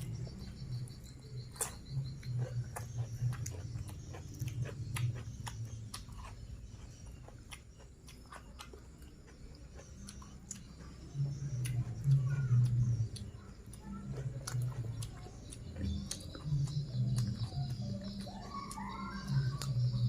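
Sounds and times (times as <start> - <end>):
chewing mouth sounds: 0.0 - 20.0.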